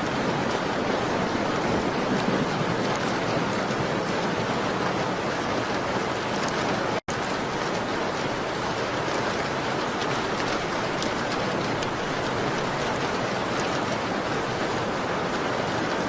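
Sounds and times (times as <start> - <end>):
rain on a window: 0.0 - 16.0.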